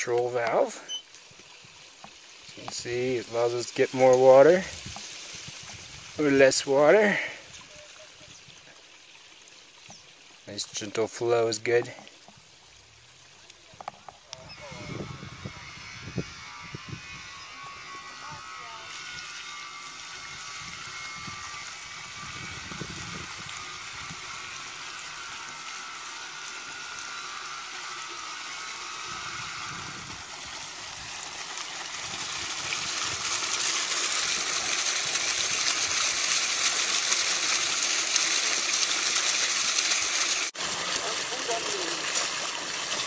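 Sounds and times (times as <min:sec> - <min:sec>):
water gushing into a trench: 0:00.0 - 0:15.5, 0:18.9 - 0:43.0.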